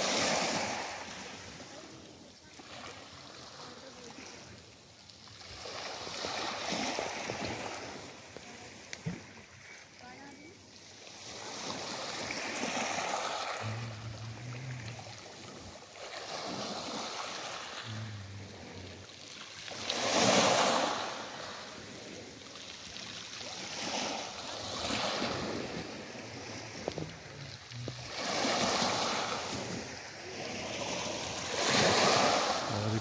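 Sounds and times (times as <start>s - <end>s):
small waves washing onto shore: 0.0s - 33.0s.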